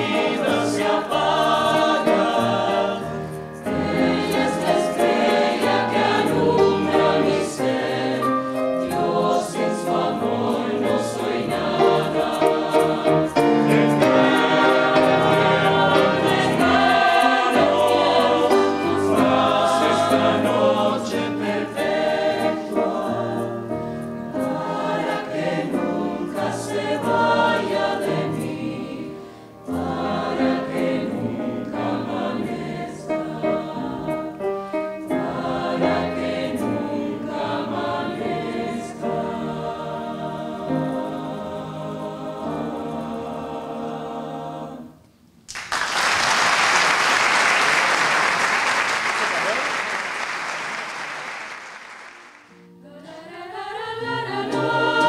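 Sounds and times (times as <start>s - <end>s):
mixed choir singing: 0.0s - 45.0s, 50.5s - 55.0s.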